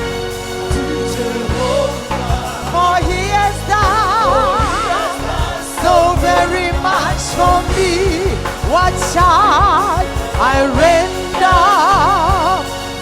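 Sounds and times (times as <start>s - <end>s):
bass: 0.0s - 13.0s
person singing with vibrato: 0.0s - 13.0s
steady drum beat: 0.0s - 13.0s.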